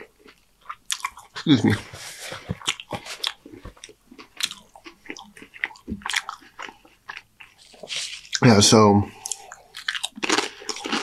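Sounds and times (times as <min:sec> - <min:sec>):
crunchy chips chewing: 0:00.0 - 0:08.5, 0:09.1 - 0:11.0.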